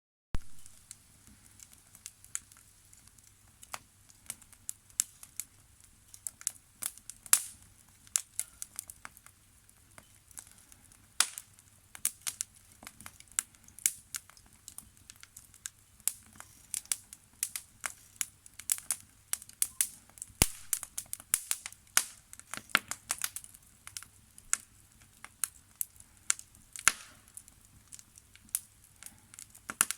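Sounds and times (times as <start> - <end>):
campfire crackling and popping: 0.4 - 29.9.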